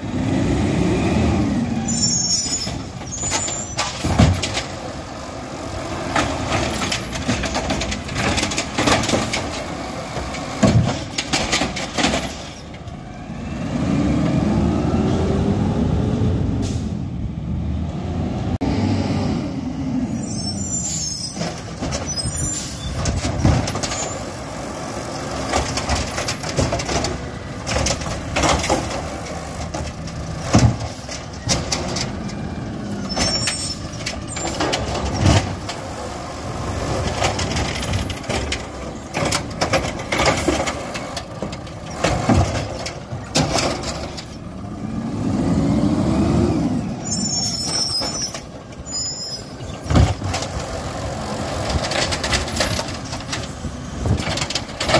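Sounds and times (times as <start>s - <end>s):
garbage truck engine running: 0.0s - 15.0s, 21.5s - 47.0s, 47.6s - 54.9s.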